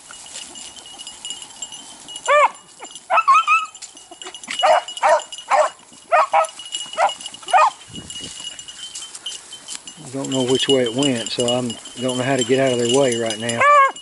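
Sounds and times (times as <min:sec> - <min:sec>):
dogs baying: 0:00.9 - 0:14.0.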